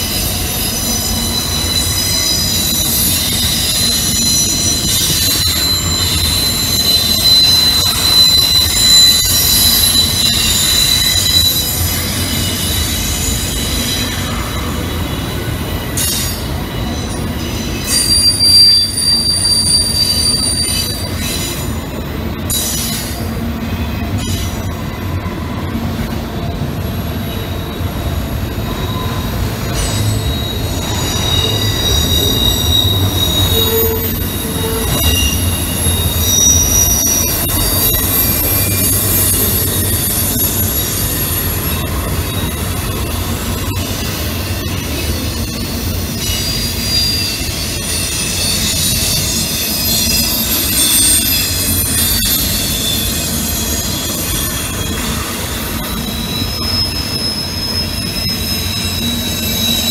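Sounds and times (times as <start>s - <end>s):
freight train rumbling: 0.0s - 59.9s
train cars squealing: 0.0s - 59.9s.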